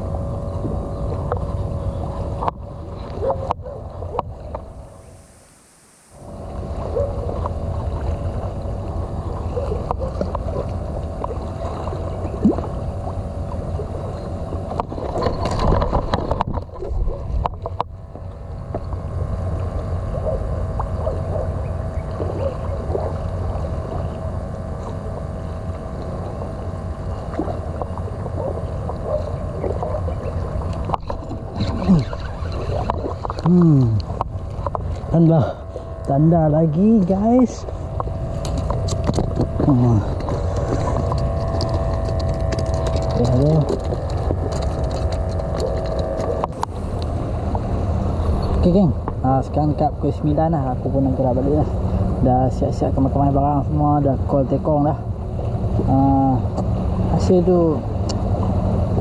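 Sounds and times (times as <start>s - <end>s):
low engine rumble: 0.0s - 5.4s, 6.2s - 59.0s.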